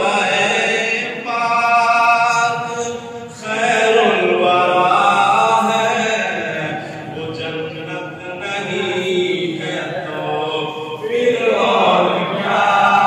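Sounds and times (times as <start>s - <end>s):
man singing over loudspeakers: 0.0s - 13.0s.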